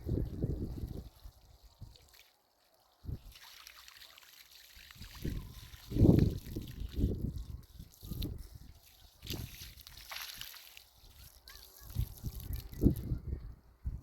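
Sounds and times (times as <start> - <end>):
water trickling and pouring: 0.0 - 13.2.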